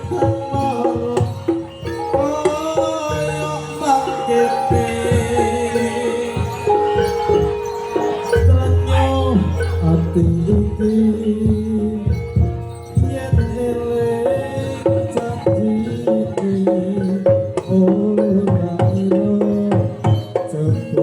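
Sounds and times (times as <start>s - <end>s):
gamelan music: 0.0s - 21.0s
hand drums beating: 0.0s - 21.0s.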